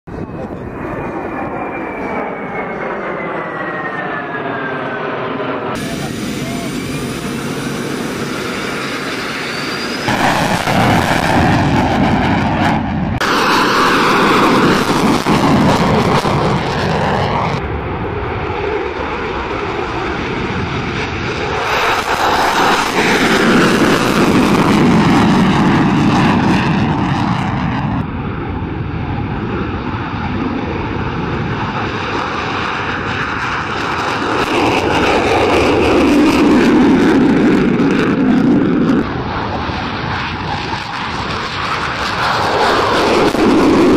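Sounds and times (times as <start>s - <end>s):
fighter jet engines roaring: 0.1s - 43.9s.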